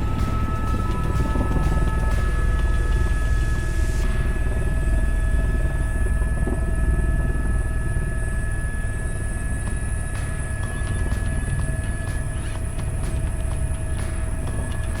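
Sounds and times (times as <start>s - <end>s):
helicopter rotor rumble: 0.0s - 15.0s
thin steady whines: 0.0s - 15.0s.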